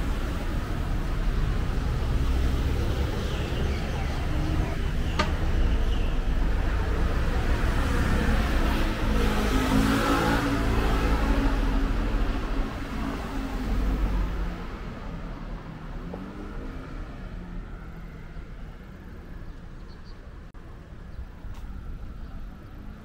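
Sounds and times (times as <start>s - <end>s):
street traffic hum: 0.0s - 23.0s.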